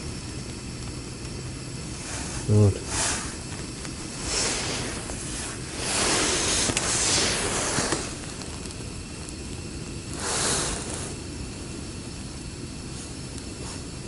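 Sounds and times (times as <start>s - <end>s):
gas burner hissing: 0.0s - 14.0s.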